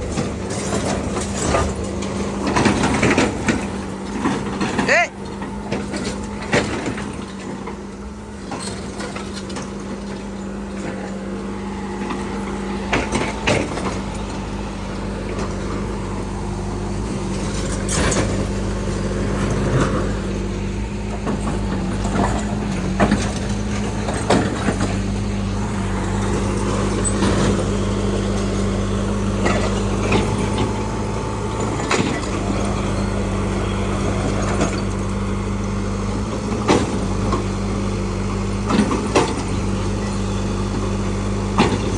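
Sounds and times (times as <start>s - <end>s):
machine knocks and clanks: 0.0s - 7.8s, 12.0s - 16.4s, 17.1s - 41.9s
excavator diesel engine running: 0.0s - 41.9s.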